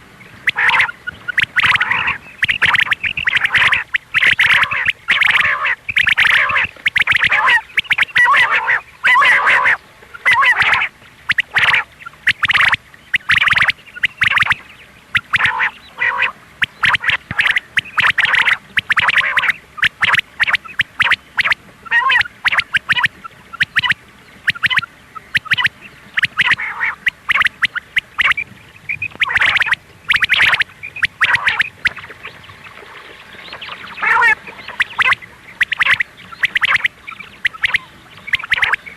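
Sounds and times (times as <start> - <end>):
quail harsh rapid calls: 0.4 - 32.2, 33.5 - 38.9.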